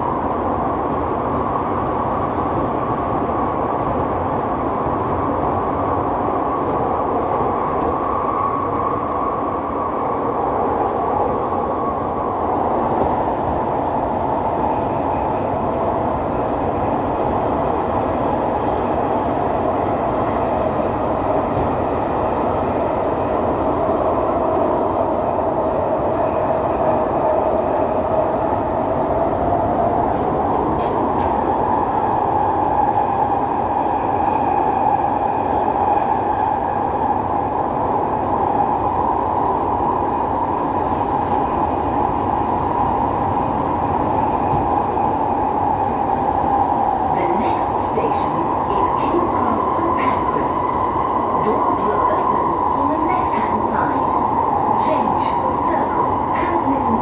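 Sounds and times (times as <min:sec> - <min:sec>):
train rumbling through tunnel: 0:00.0 - 0:57.0.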